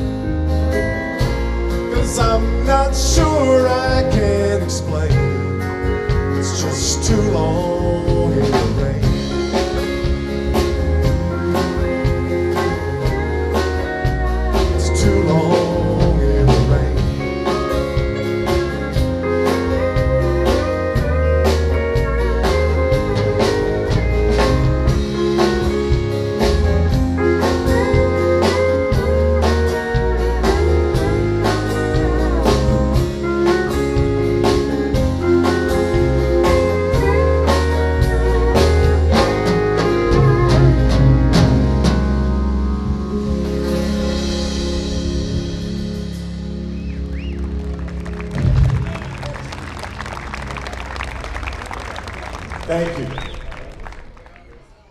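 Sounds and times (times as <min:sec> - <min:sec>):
drum kit beat: 0:00.0 - 0:50.6
guitar playing: 0:00.0 - 0:52.7
bass: 0:00.0 - 0:54.9.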